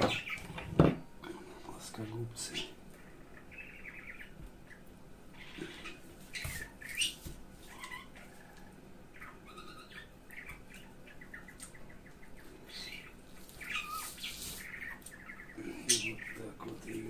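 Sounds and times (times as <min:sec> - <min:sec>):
small bird chirping: 0:00.0 - 0:00.6, 0:02.4 - 0:17.0.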